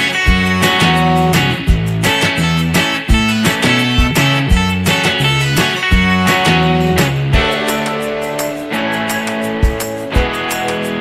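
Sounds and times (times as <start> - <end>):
strummed and plucked guitar: 0.0 - 11.0.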